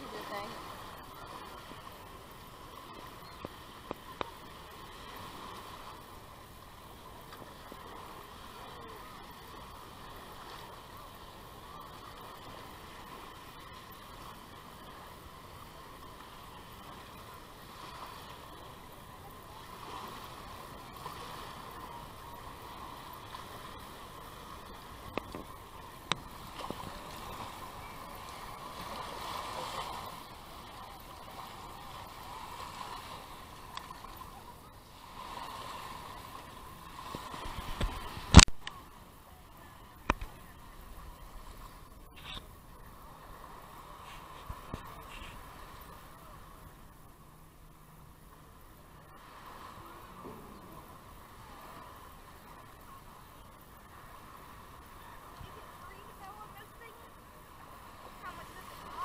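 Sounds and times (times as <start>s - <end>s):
small waves washing on beach: 0.0s - 59.0s.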